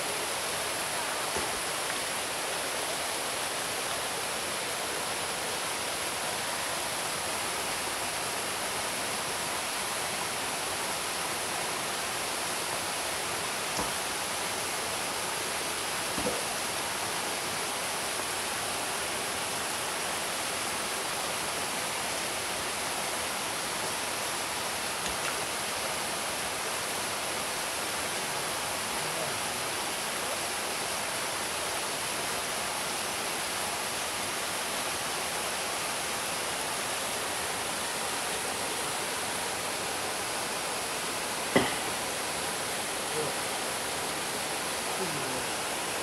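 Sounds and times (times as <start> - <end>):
small waterfall splashing into pool: 0.0 - 46.0.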